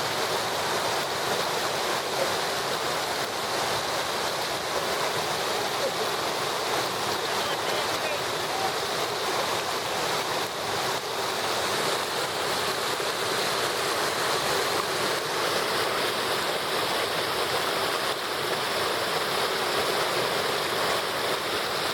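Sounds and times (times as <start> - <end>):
waterfall roaring: 0.0 - 21.9.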